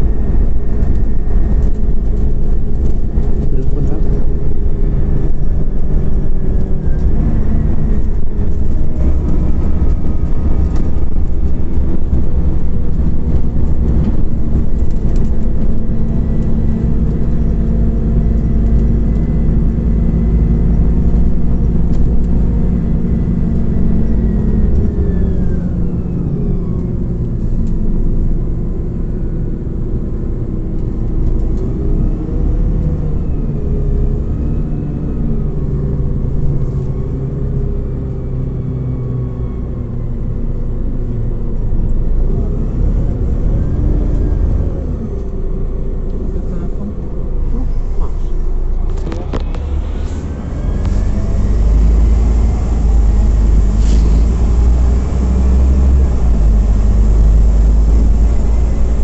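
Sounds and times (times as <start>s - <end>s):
bus engine drone: 0.0s - 59.0s
road rumble: 0.0s - 59.0s.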